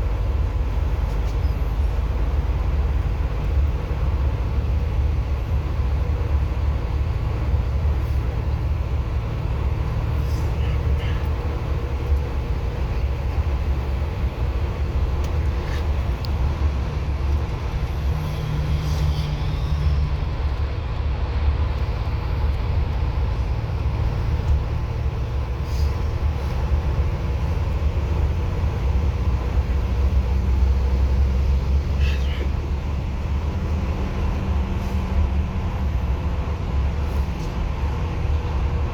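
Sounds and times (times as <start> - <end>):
bus engine rumble: 0.0 - 38.9
road noise: 0.0 - 38.9.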